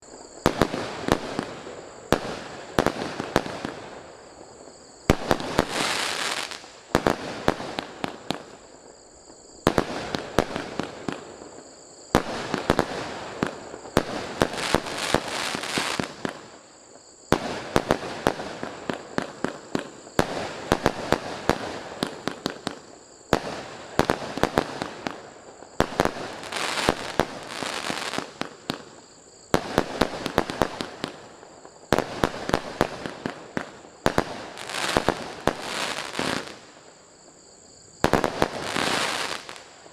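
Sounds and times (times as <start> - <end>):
fireworks dense crackling: 0.0 - 39.9
fireworks sharp shots: 0.4 - 4.1, 5.1 - 8.7, 9.6 - 16.6, 17.3 - 36.8, 38.0 - 39.8.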